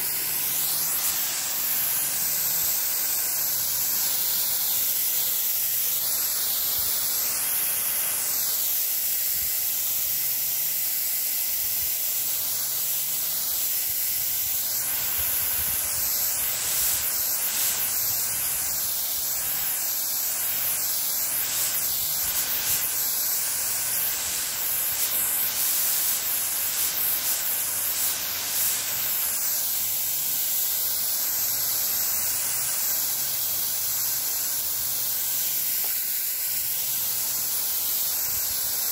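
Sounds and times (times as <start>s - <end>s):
water mist spraying hiss: 0.0s - 38.9s.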